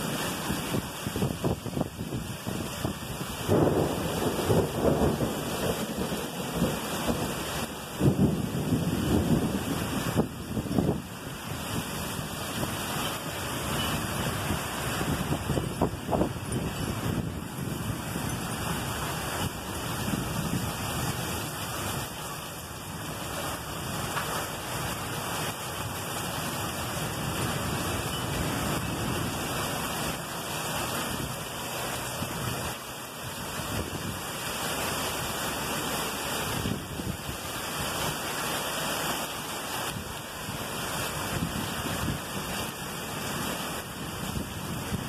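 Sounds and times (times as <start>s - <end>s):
heavy rain: 0.0s - 45.0s
water pouring off roof edge: 0.0s - 45.0s
wind: 0.0s - 45.0s.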